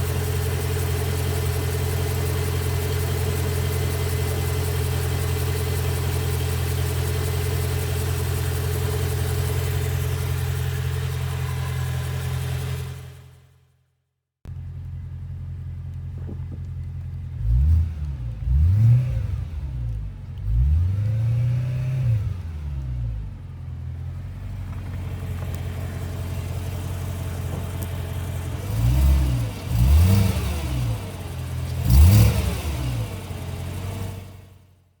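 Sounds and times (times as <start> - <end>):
car engine idling and revving: 0.0 - 13.5, 14.5 - 34.9.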